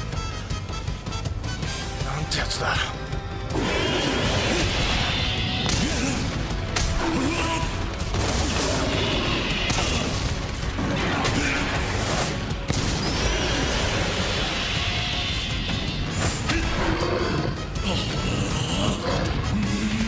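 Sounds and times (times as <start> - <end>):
battle music: 0.0 - 20.0.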